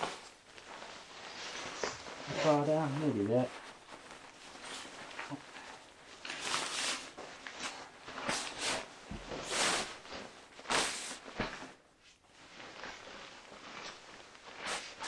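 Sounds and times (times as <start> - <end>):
fabric rustling and swishing: 0.0 - 15.0.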